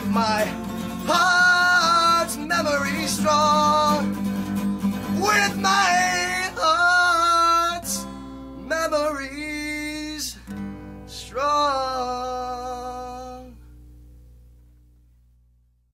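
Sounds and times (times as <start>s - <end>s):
strummed acoustic guitar: 0.0s - 15.1s.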